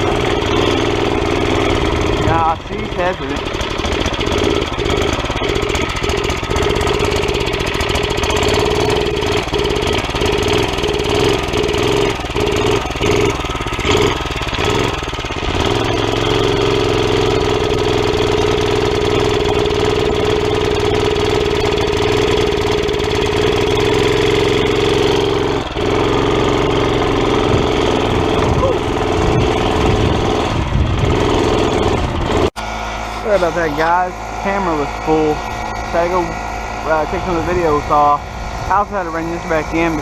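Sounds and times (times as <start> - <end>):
small engine sputtering and running: 0.0 - 40.0.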